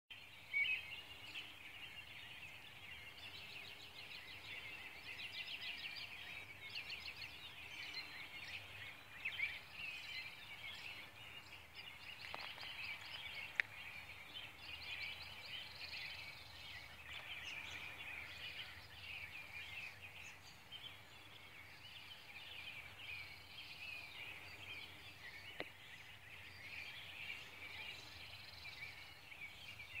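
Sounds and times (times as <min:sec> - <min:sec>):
songbirds chirping and trilling: 0:00.1 - 0:30.0.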